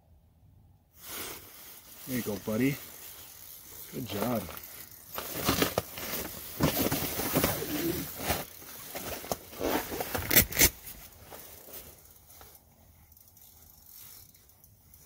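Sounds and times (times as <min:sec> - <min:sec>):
clothing rustling: 0:01.0 - 0:13.1.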